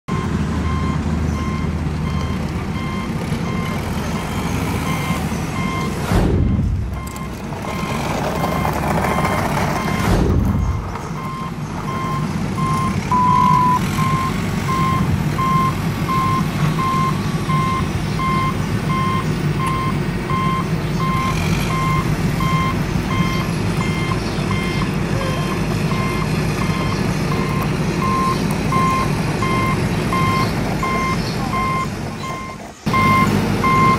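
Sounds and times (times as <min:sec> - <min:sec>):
reversing alarm beeps: 0:00.1 - 0:33.9.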